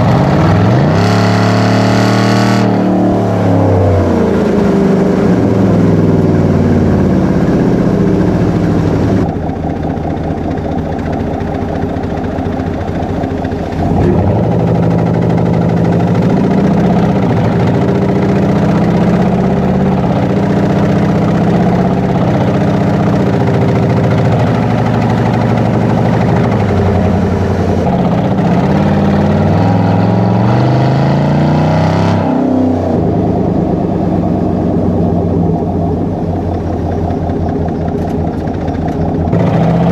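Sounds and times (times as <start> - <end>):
truck exhaust revving: 0.0 - 39.9.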